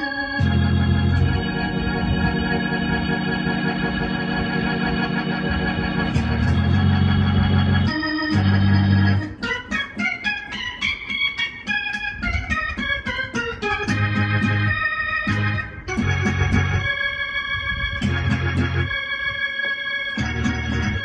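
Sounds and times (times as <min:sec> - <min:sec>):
gospel electronic keyboard: 0:00.0 - 0:21.0.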